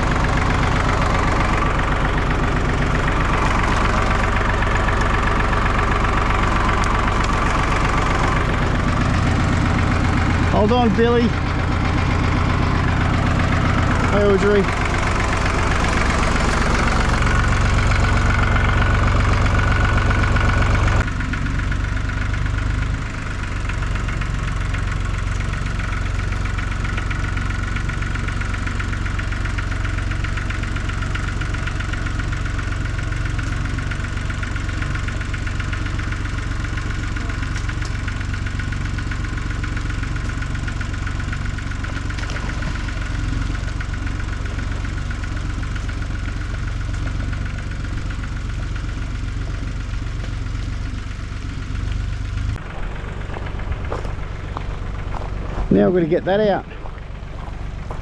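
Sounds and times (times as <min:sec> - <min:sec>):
tractor engine idling: 0:00.0 - 0:58.0.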